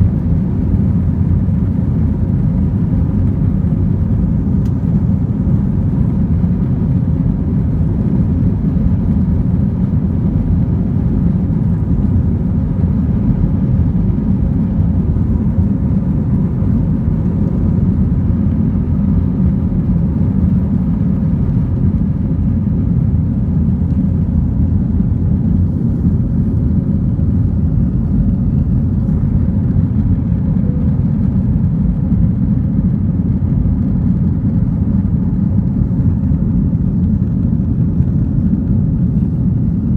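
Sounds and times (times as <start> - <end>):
faint steady hum: 0.0 - 39.9
jet engines low rumble: 0.0 - 39.9.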